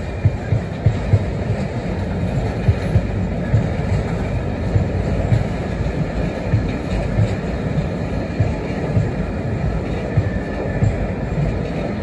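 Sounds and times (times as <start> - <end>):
freight wagons rumbling on rails: 0.0 - 12.0
uneven low thuds: 0.2 - 11.6.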